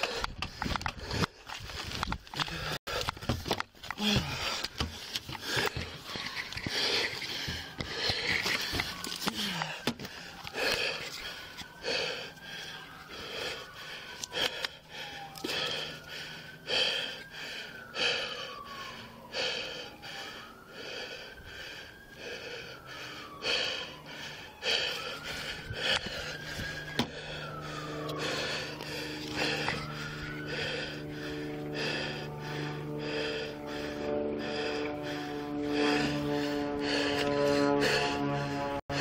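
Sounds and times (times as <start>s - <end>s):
heavy fast breathing: 0.0s - 39.0s
siren wailing: 0.0s - 39.0s.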